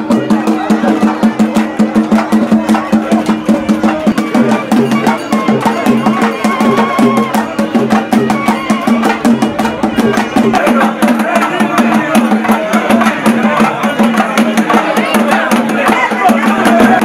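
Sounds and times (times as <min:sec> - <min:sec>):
fast drumming: 0:00.0 - 0:17.0.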